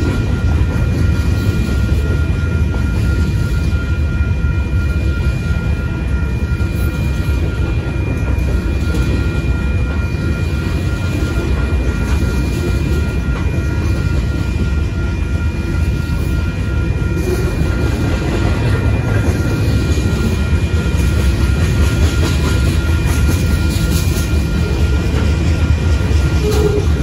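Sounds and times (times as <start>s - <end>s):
clickety-clack clatter: 0.0s - 27.0s
freight train wheels rumbling on rail: 0.0s - 27.0s.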